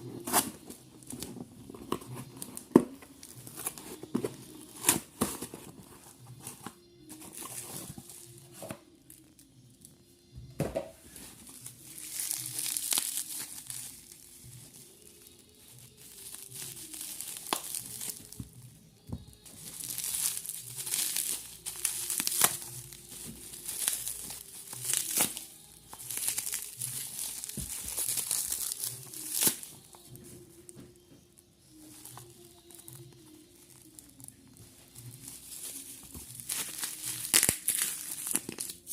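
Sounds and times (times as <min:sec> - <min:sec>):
plastic and paper crinkling and tearing: 0:00.0 - 0:09.5, 0:11.1 - 0:38.9.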